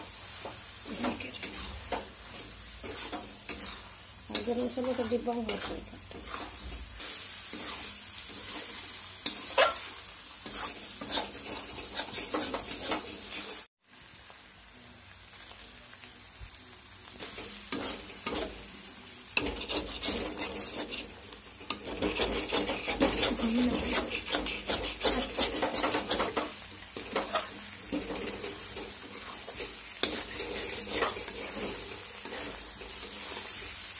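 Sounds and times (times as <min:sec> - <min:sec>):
spatula scraping a pan: 0:00.0 - 0:13.7, 0:17.2 - 0:33.9
meat and onions sizzling: 0:00.0 - 0:33.9.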